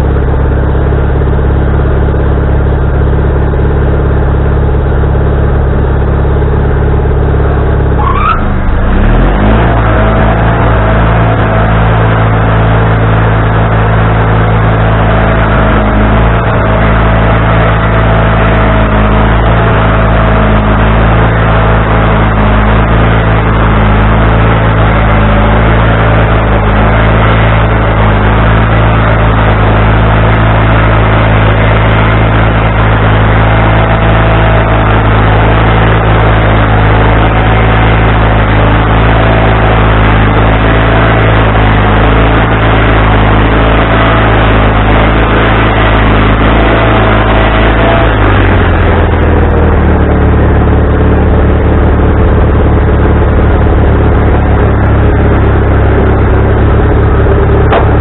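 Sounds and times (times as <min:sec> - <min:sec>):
band sawmill cutting log: 0:07.4 - 0:58.0.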